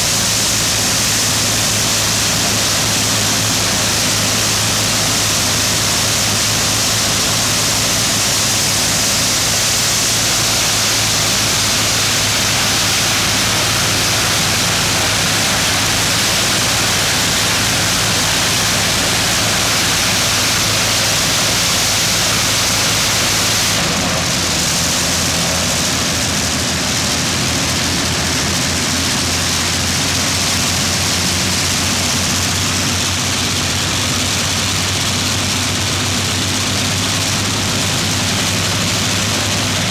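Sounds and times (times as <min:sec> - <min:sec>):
aircraft engine and propeller roaring: 0:00.0 - 0:39.9.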